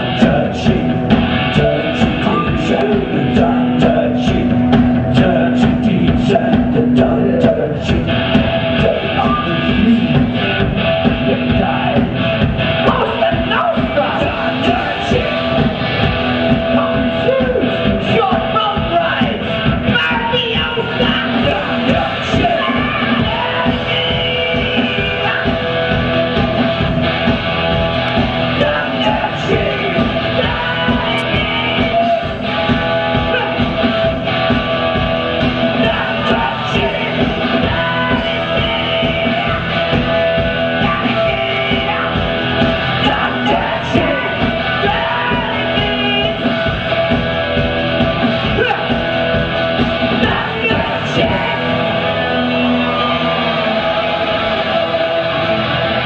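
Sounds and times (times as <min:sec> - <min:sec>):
man singing and yelling: 0:00.0 - 0:26.8, 0:28.2 - 0:47.2, 0:48.3 - 0:56.0
live rock band playing: 0:00.0 - 0:56.0.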